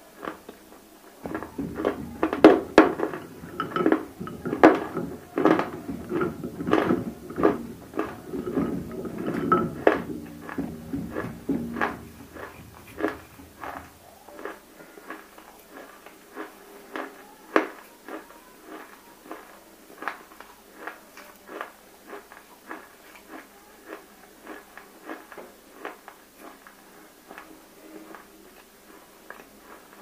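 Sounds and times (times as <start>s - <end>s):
wet crunchy chewing: 0.0s - 30.0s.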